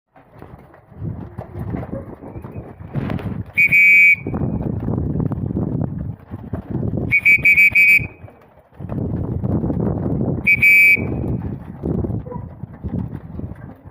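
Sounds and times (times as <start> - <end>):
pigeon wings flapping: 0.1 - 13.9.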